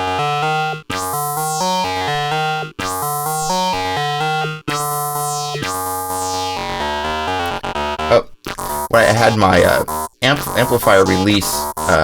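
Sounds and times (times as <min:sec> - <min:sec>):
synth bass line: 0:00.0 - 0:12.0
synthesizer sequence: 0:00.0 - 0:12.0.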